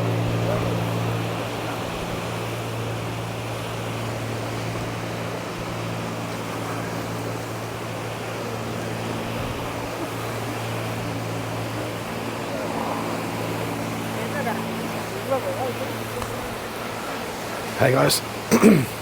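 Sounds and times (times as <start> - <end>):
low engine-like hum: 0.0 - 19.0
surf: 0.0 - 19.0
wind: 0.0 - 19.0.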